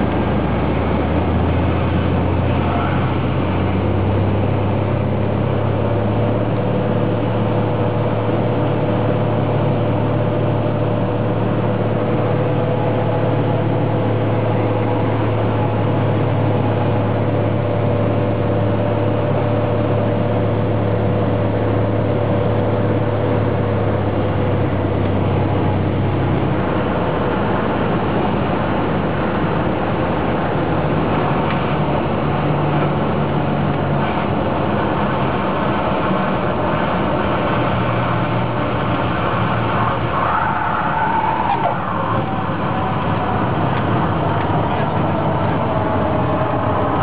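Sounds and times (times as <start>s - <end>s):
propeller plane engine droning: 0.0s - 47.0s.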